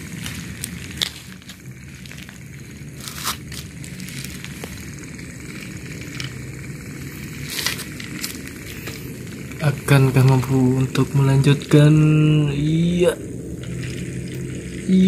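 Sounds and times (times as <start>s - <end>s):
toy train motor hum: 0.0s - 15.0s.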